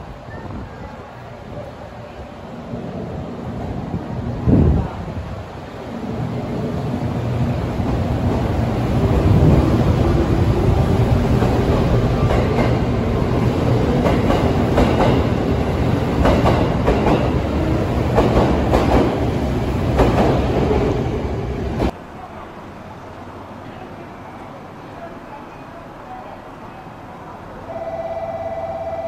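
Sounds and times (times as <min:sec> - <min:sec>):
train rumbling past: 0:00.0 - 0:29.0.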